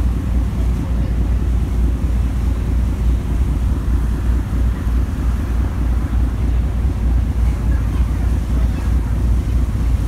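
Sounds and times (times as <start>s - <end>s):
ship low rumble: 0.0s - 10.0s
water rushing past hull: 0.0s - 10.0s.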